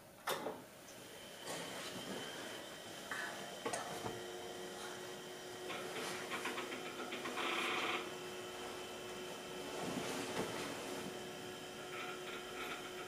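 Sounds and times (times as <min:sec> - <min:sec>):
computer fan and hard drive whine: 0:00.0 - 0:13.0.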